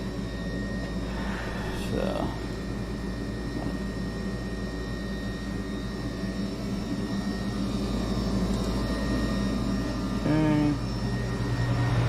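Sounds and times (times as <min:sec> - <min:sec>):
furnace motor hum and whine: 0:00.0 - 0:12.0.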